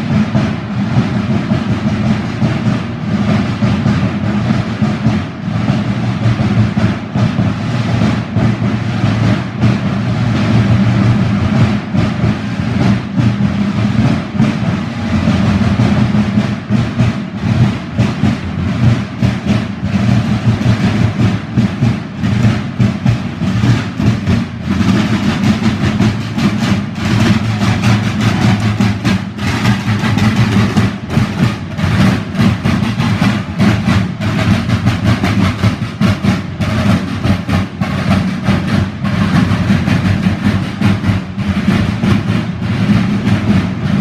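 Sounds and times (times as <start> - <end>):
drums beaten with sticks: 0.0 - 44.0.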